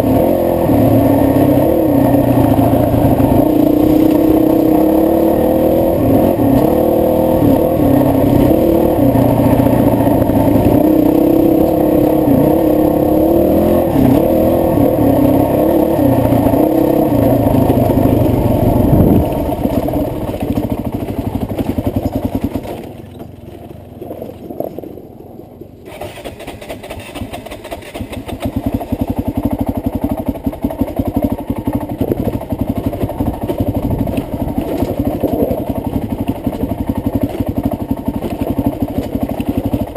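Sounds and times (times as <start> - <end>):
dirt bike engine revving: 0.0 - 23.2, 25.8 - 39.9.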